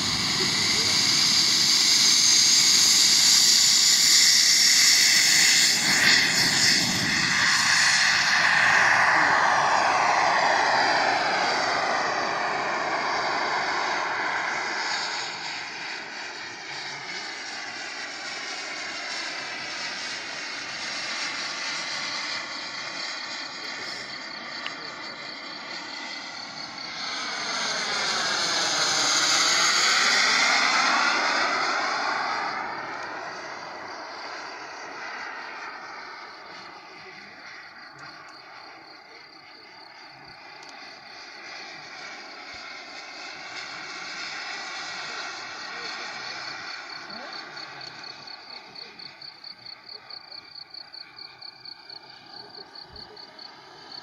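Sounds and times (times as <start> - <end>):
model jet turbine flying past: 0.0 - 54.0.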